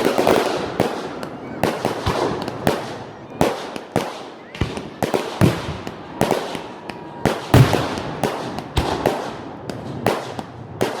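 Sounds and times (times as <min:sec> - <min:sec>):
fireworks bursting with echoing bangs: 0:00.0 - 0:11.0.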